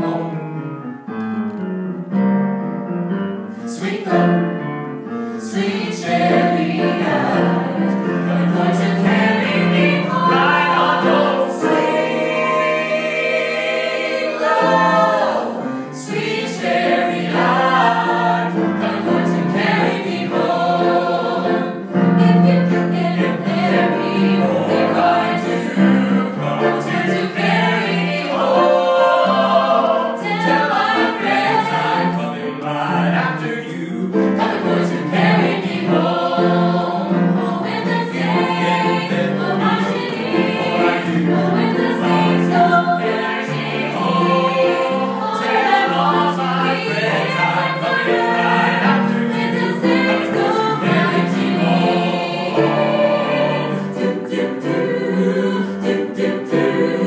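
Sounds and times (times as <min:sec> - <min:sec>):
group singing in harmony: 0:00.0 - 0:00.6, 0:03.4 - 0:57.0
keyboard accompaniment: 0:00.0 - 0:57.0.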